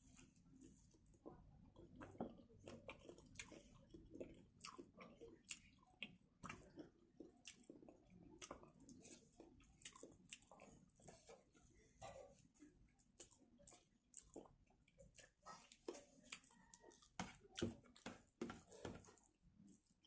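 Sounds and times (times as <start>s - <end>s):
close-up chewing: 0.0s - 20.0s.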